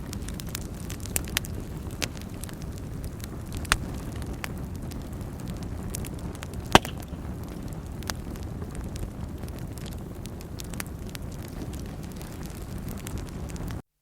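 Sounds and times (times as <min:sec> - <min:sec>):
fire crackles and pops: 0:00.0 - 0:13.8
low rumble of flames: 0:00.0 - 0:13.8.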